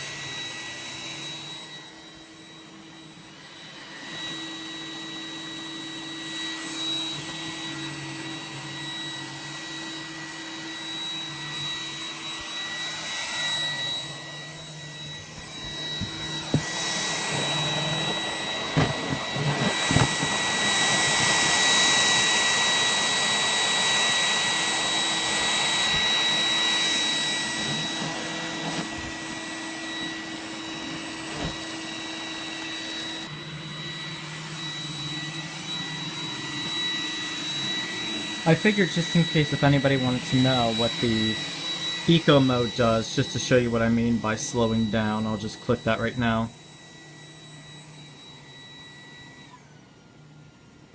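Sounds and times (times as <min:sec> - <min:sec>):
robot vacuum running: 0:00.0 - 0:50.7.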